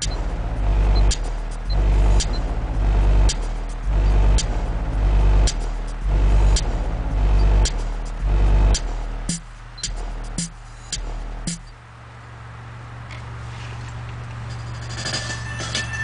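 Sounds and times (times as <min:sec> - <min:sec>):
bass-heavy electronic music: 0:00.0 - 0:12.5, 0:14.3 - 0:16.0.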